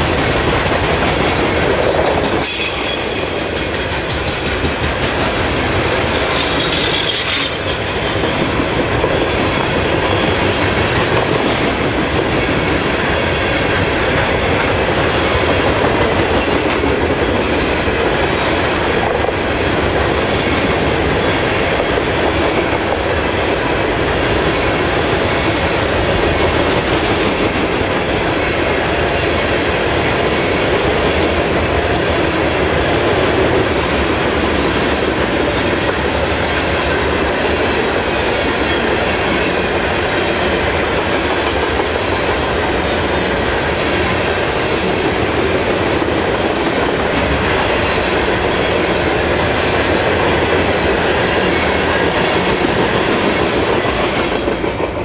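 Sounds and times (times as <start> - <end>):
train wheels rumbling over rails: 0.0 - 55.0.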